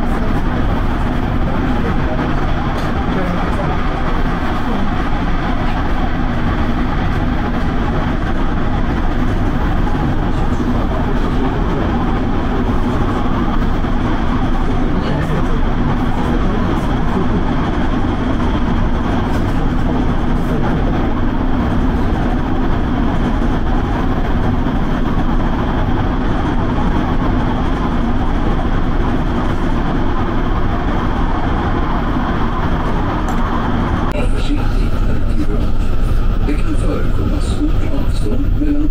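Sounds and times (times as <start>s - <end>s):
constant low hum: 0.0s - 38.9s
train wheels rumbling on rails: 0.0s - 38.9s.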